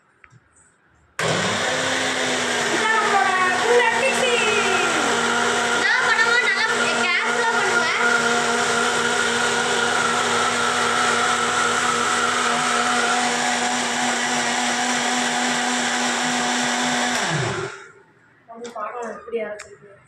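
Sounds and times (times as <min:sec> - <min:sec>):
mixer grinder motor humming: 0:01.2 - 0:18.0.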